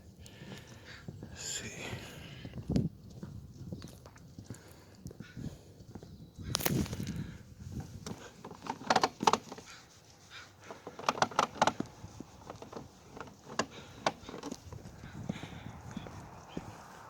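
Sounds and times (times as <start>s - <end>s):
footsteps on trailer roof: 0.0s - 17.0s.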